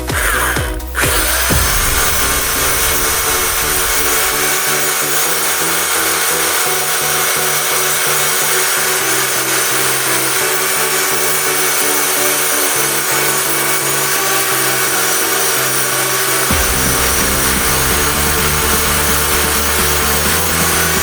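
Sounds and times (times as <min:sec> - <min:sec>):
background music with bass line: 0:00.0 - 0:21.0.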